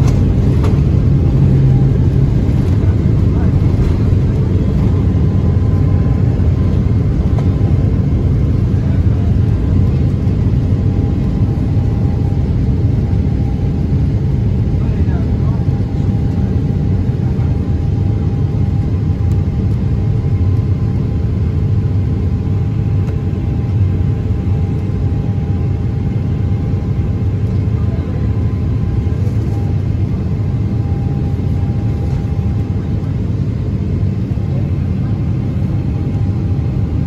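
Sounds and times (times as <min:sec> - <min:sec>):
airplane engines rumbling: 0:00.0 - 0:37.0.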